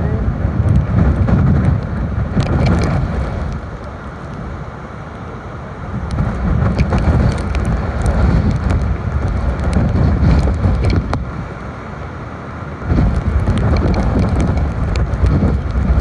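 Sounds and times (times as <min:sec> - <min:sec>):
rain: 0:00.0 - 0:16.0
wind buffeting microphone: 0:00.0 - 0:16.0.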